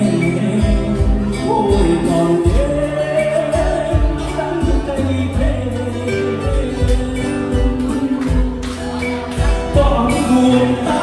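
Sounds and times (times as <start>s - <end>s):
acoustic guitar: 0.0s - 11.0s
keyboard: 0.0s - 11.0s
person singing: 0.0s - 11.0s.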